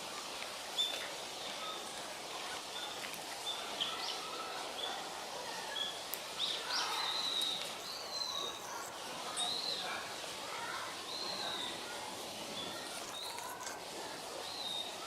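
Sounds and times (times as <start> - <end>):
outdoor background noise: 0.0 - 15.0
small birds chirping: 0.3 - 15.0.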